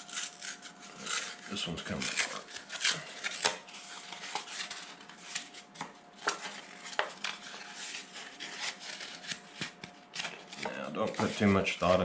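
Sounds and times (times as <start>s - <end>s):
cardboard crinkling and crackling: 0.0s - 12.0s.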